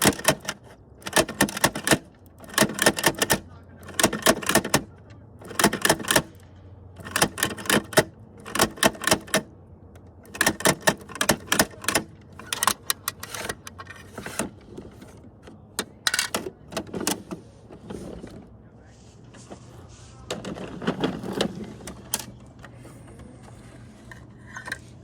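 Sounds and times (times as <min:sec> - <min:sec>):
toy trucks clicking and clattering: 0:00.0 - 0:18.5, 0:20.3 - 0:25.0.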